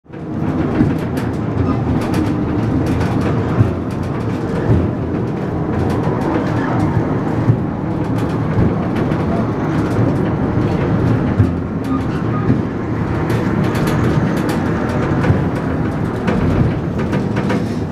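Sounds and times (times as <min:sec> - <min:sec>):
funicular car low rumble: 0:00.1 - 0:17.9.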